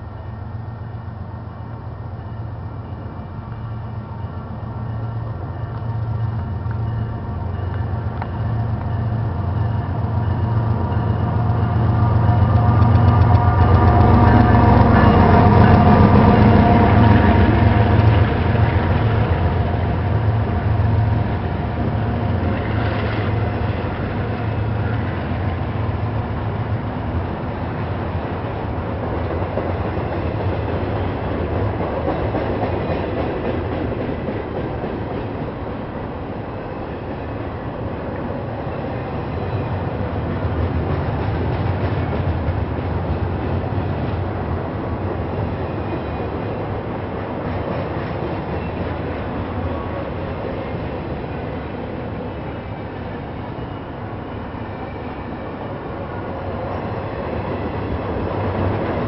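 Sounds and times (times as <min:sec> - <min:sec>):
diesel locomotive drone: 0:00.0 - 0:59.0
freight cars rumbling past: 0:00.0 - 0:59.0.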